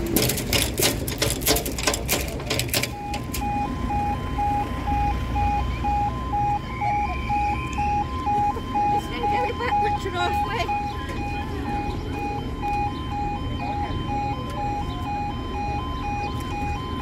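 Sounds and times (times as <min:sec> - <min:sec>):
two-tone crossing warning alarm: 0:00.0 - 0:17.0.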